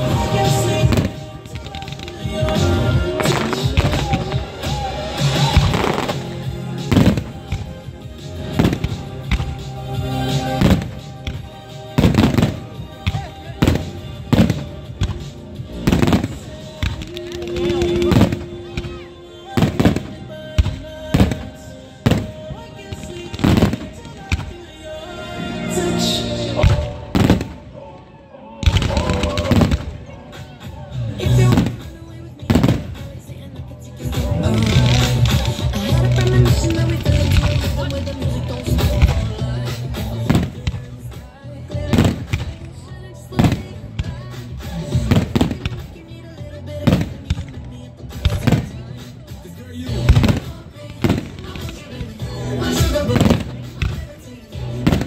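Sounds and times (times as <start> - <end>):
fireworks bangs: 0.0 - 25.0, 26.5 - 27.6, 28.6 - 30.5, 31.2 - 33.3, 34.1 - 46.1, 46.7 - 55.0
fireworks crackle: 0.0 - 25.1, 26.5 - 27.6, 28.6 - 33.3, 34.0 - 55.0
music playing: 0.0 - 55.0.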